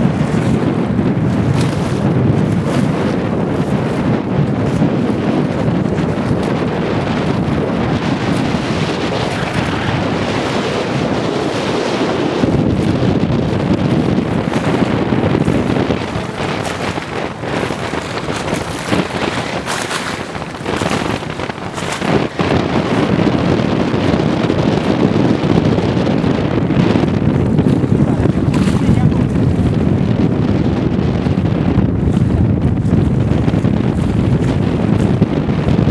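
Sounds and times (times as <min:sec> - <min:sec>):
strong wind buffeting microphone: 0:00.0 - 0:35.9.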